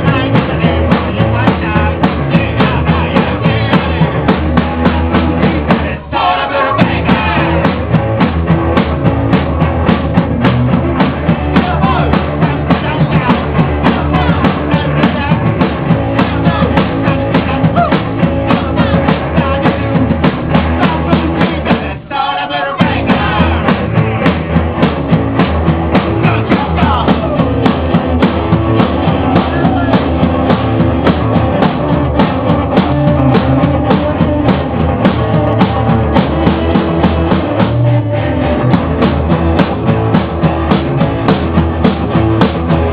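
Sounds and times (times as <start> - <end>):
rock band playing loudly: 0.0 - 42.9.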